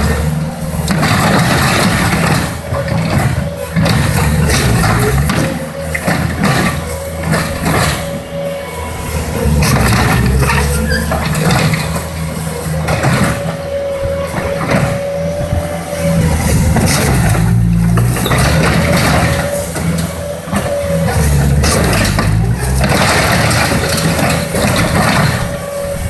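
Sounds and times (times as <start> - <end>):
loader diesel engine running hard: 0.0 - 26.0
steady hydraulic whine: 0.0 - 26.0.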